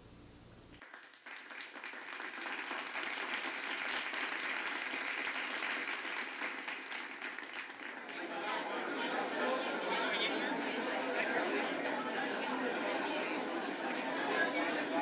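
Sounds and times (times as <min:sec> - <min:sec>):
audience applauding: 0:00.8 - 0:15.0.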